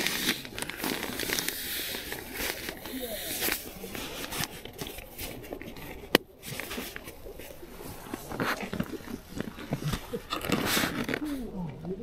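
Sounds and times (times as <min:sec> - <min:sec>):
rustling of camping gear: 0:00.0 - 0:12.0.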